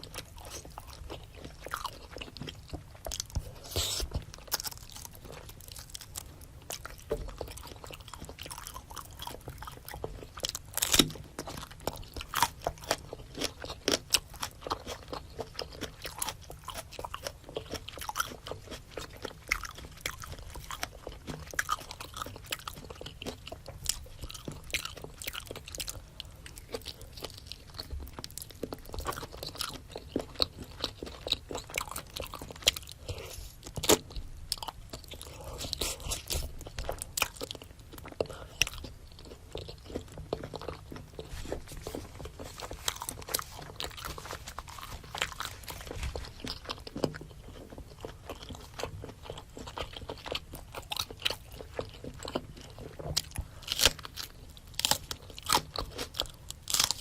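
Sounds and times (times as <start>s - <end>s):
wet chewing and biting: 0.0s - 57.0s.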